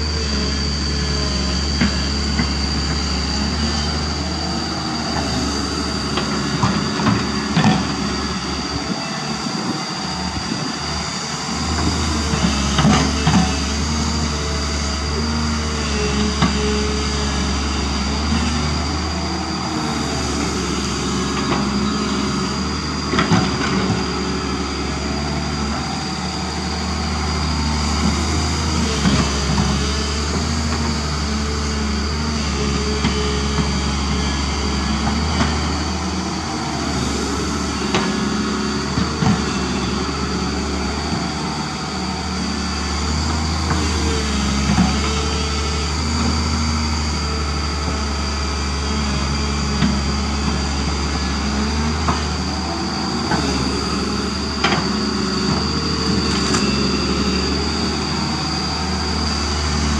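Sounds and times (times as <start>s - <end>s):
excavator diesel engine running: 0.0s - 59.9s
high engine whine: 0.0s - 59.9s.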